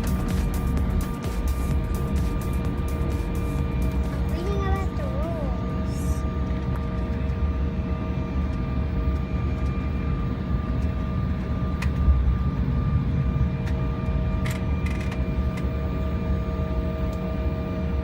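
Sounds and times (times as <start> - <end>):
low engine rumble: 0.0 - 18.0
steady whining tones: 0.0 - 18.0.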